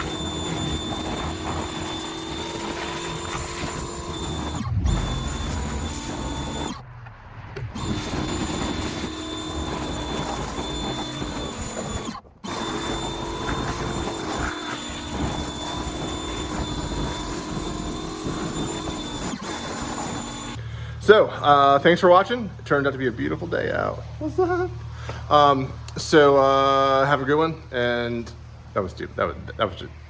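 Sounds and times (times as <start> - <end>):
pressure washer running: 0.0 - 6.8, 7.6 - 29.6.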